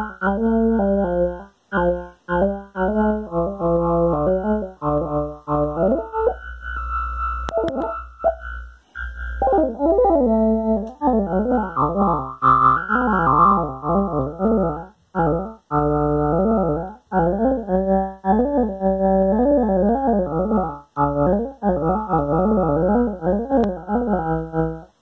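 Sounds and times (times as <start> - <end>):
low bass tone: 0.0 - 24.9
synthesizer stepped riff: 0.0 - 25.0.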